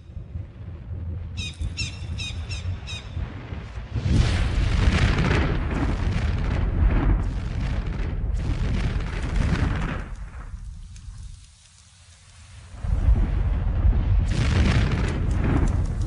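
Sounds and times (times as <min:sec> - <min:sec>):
volcano rumbling: 0:00.0 - 0:11.6, 0:12.2 - 0:16.0.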